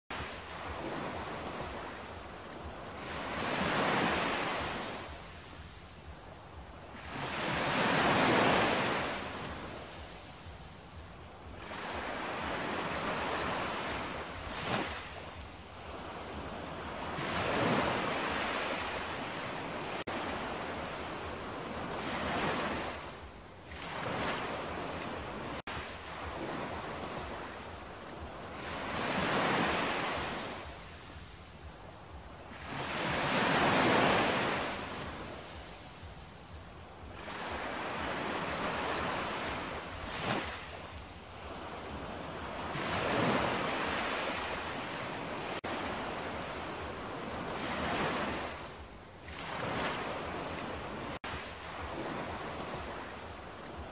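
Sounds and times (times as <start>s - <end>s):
ocean waves breaking: 0.1s - 53.9s.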